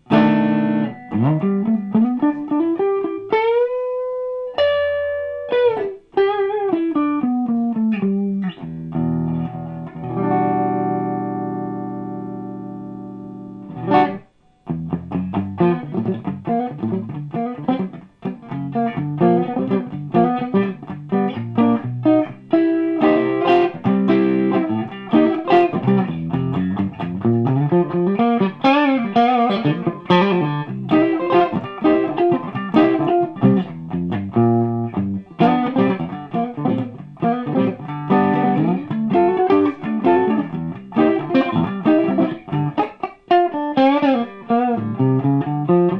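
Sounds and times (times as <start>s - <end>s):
clean electric guitar playing: 0.0s - 45.9s.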